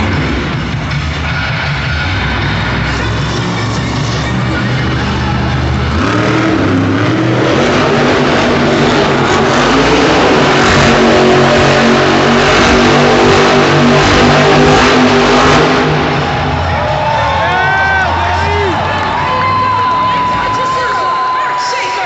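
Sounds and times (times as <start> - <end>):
truck engine revving: 0.0 - 21.4.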